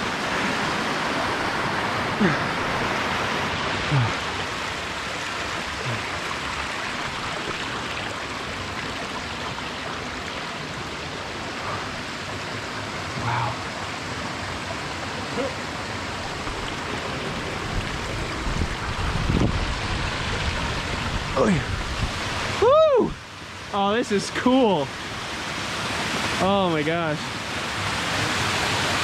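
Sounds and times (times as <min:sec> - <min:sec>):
water rushing down rocky stream: 0:00.0 - 0:29.0.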